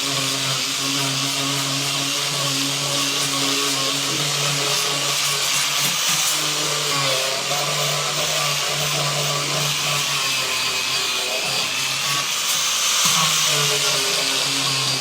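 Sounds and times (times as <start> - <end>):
electric power tool on wood: 0.0 - 15.0.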